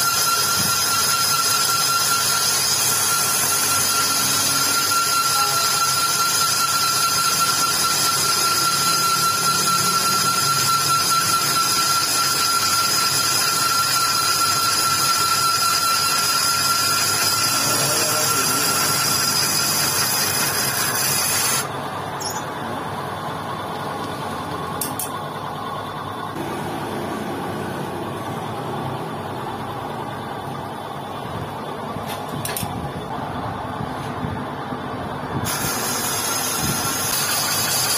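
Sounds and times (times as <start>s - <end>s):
high-pitched whine: 0.0s - 37.9s
lathe machine noise: 0.0s - 37.9s.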